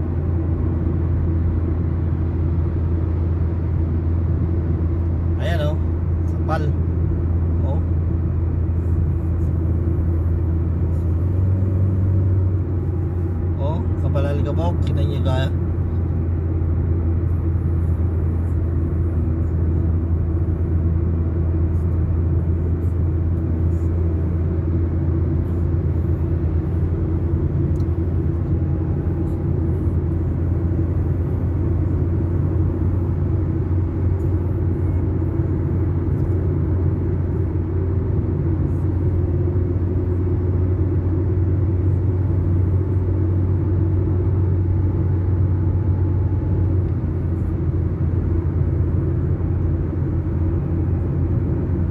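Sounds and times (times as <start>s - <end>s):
motor vehicle engine rumble: 0.0s - 51.9s.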